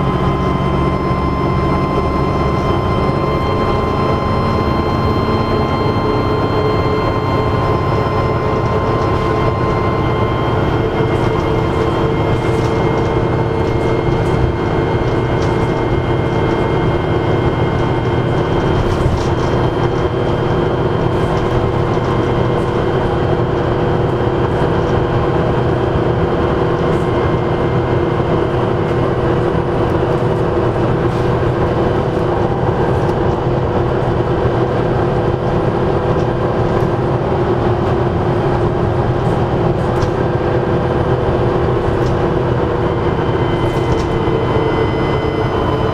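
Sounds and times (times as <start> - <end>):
bus engine drone: 0.0 - 45.9
turbocharger whine: 0.0 - 45.9.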